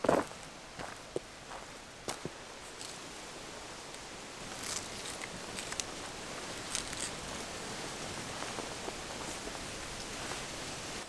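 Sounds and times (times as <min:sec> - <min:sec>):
steady hiss: 0:00.0 - 0:11.0
wood fire crackling: 0:02.1 - 0:11.0.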